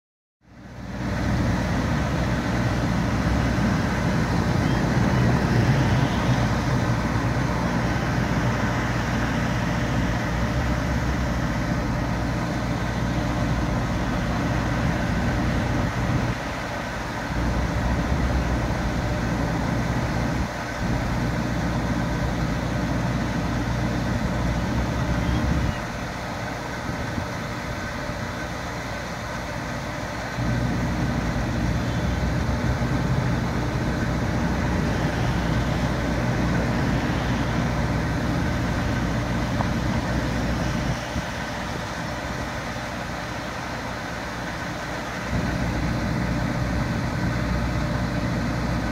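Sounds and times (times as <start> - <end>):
engine idling: 0.4 - 48.9.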